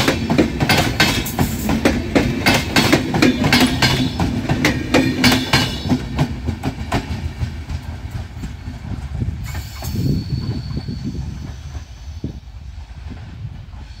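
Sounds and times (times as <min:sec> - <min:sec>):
train wheels rumbling over rails: 0:00.0 - 0:14.0.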